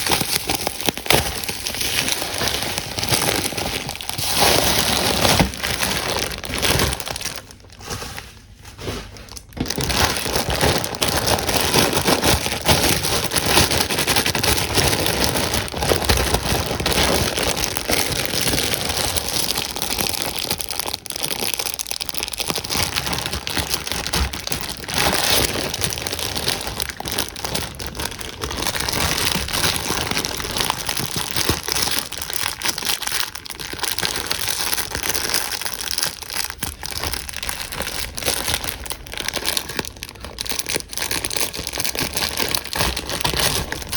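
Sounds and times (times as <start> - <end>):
packaging crinkling: 0.0 - 43.9.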